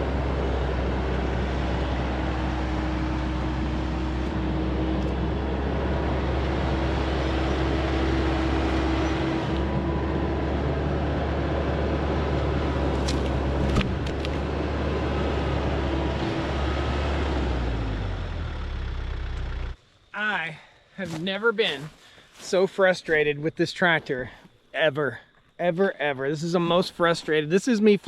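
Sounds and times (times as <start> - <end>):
tractor diesel engine running: 0.0 - 24.3.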